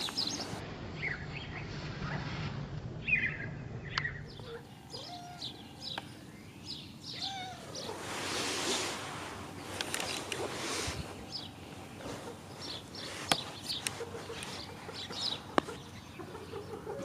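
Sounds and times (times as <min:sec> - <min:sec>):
pet birds chirping: 0:00.0 - 0:01.6, 0:03.0 - 0:08.0, 0:08.6 - 0:17.0.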